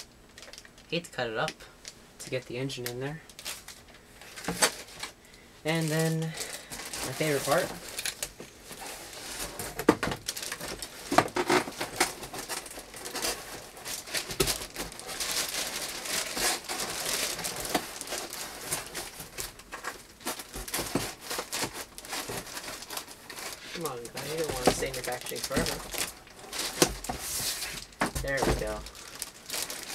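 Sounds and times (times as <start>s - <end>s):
plastic wrapping crinkling: 0.0s - 29.9s
cardboard rustling and scraping: 5.7s - 29.9s.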